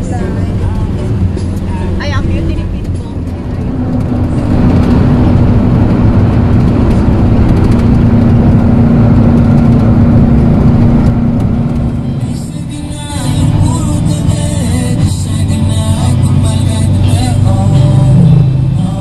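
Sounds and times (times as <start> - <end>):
vehicle road and engine drone: 0.0 - 19.0.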